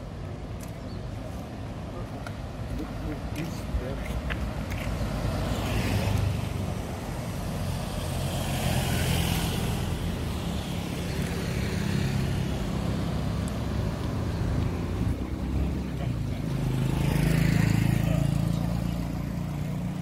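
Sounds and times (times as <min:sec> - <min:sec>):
vehicles passing close by: 0:00.0 - 0:20.0.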